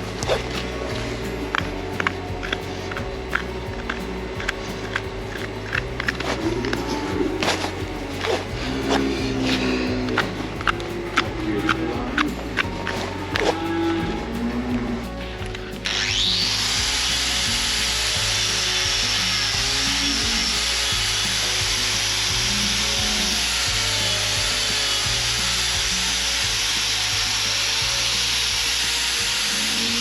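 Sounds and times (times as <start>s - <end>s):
background music: 0.0s - 30.0s
power grinder rasping on hoof: 0.0s - 30.0s.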